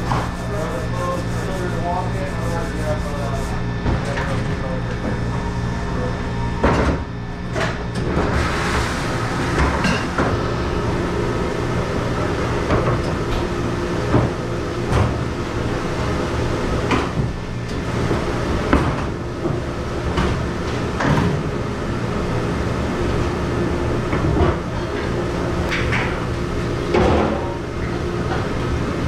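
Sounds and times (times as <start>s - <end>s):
kitchen machinery humming: 0.0s - 29.0s.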